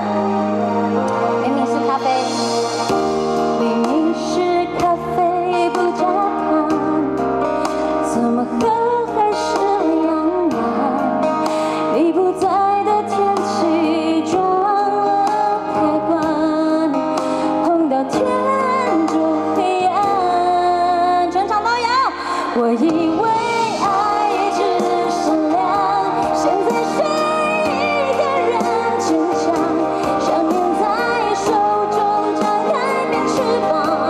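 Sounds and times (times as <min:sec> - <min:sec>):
pop music over sound system: 0:00.0 - 0:34.0
female vocals: 0:03.6 - 0:07.2, 0:08.0 - 0:34.0.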